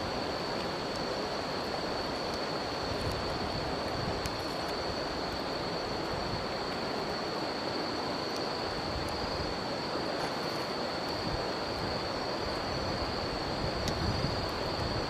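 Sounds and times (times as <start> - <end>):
campfire crackling: 0.0 - 15.0
high insect trill: 0.0 - 15.0.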